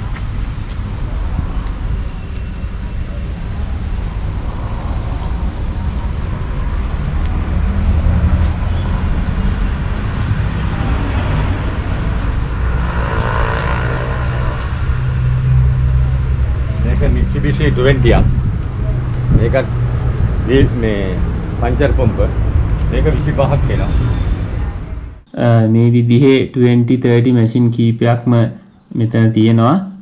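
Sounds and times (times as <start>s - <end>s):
rush of higher noise: 0.0s - 25.2s
motor vehicle rumble: 0.0s - 25.3s.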